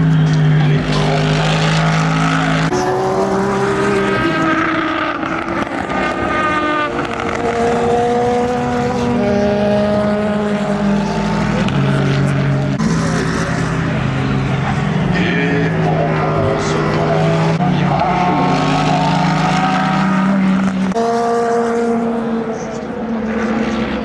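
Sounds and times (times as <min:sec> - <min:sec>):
race car engines: 0:00.0 - 0:24.0.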